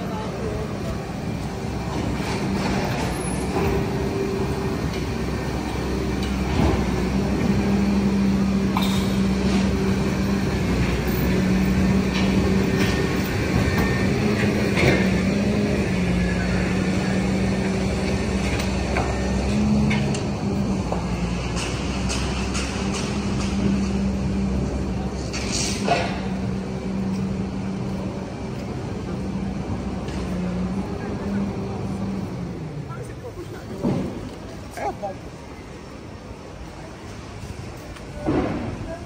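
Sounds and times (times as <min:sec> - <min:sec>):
diesel engine humming: 0:00.0 - 0:39.0
street noise: 0:00.0 - 0:39.0.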